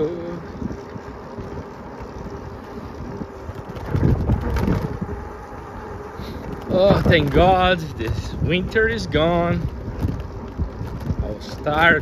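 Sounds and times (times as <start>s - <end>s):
bicycle tyre rumble: 0.0s - 12.0s
wind on microphone: 0.0s - 12.0s.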